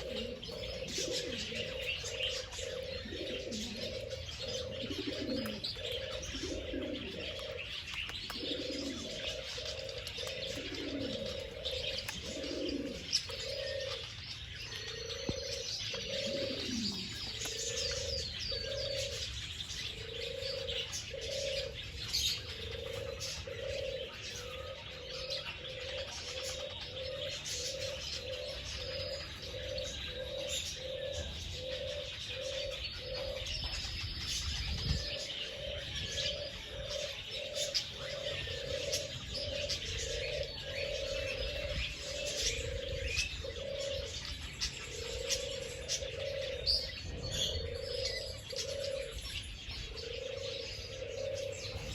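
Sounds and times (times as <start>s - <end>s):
doves cooing: 0.0s - 51.9s
small birds chirping: 0.0s - 51.9s.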